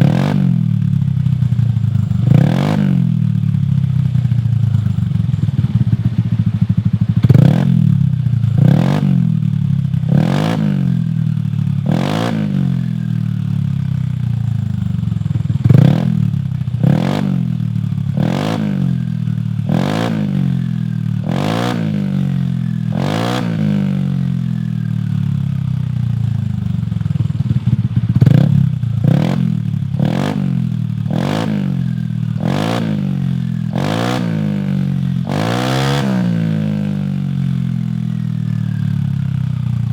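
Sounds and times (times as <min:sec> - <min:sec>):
scooter engine revving from idle: 0:00.0 - 0:39.9.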